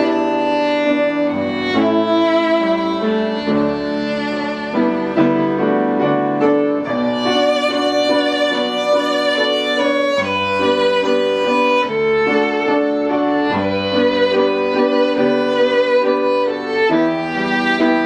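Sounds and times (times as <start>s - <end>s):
violin melody: 0.0s - 18.0s.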